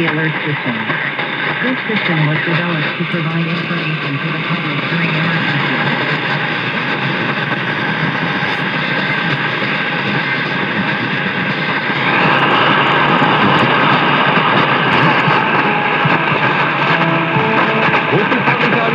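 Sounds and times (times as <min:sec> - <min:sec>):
car radio static hiss: 0:00.0 - 0:18.9.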